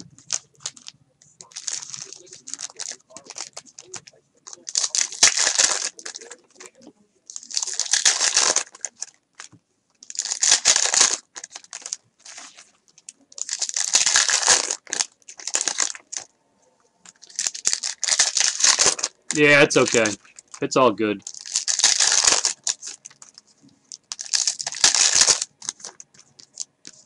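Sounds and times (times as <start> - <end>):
foil wrappers crinkling and tearing: 0.0 - 16.3, 17.1 - 27.0.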